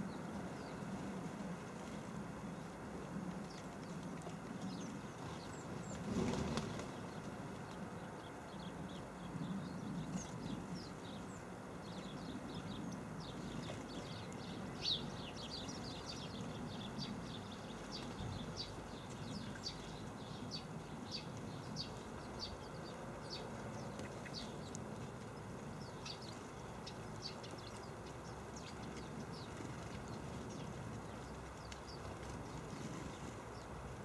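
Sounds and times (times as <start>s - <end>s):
sparrows chirping: 0.0s - 0.9s, 4.6s - 7.4s, 8.0s - 33.8s.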